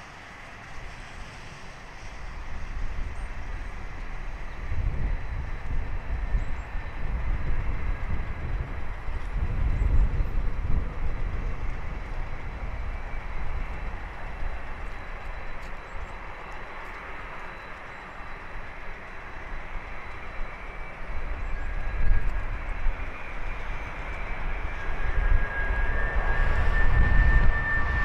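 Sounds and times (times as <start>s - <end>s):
airliner jet hum: 0.0s - 28.0s.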